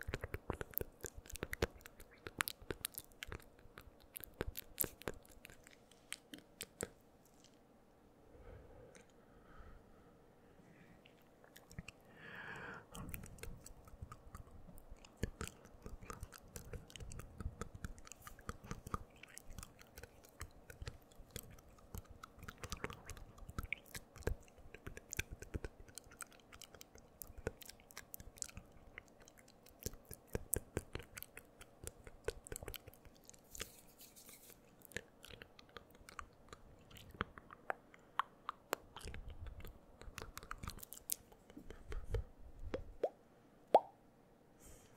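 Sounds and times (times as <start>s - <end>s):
mouth clicks and smacks: 0.0s - 7.6s, 11.0s - 12.1s, 12.8s - 44.0s.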